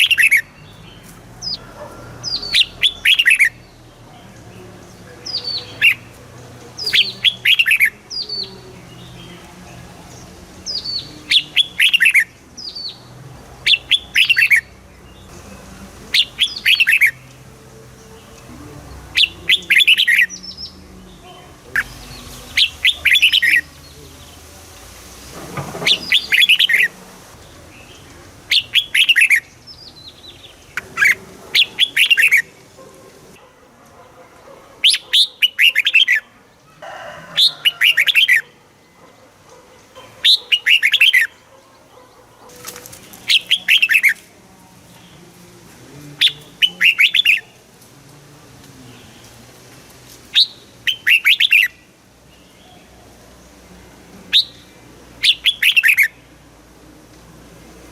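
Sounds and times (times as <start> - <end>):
bulbul singing: 0.0 - 33.4, 40.0 - 47.8, 50.3 - 56.4.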